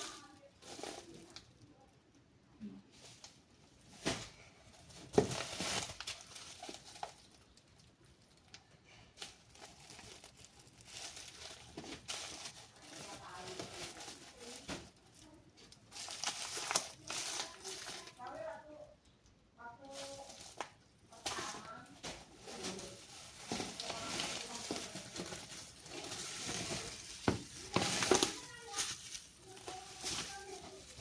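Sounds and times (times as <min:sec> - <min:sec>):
plastic packaging crinkling: 0:00.0 - 0:01.8, 0:03.0 - 0:18.6, 0:19.6 - 0:31.0.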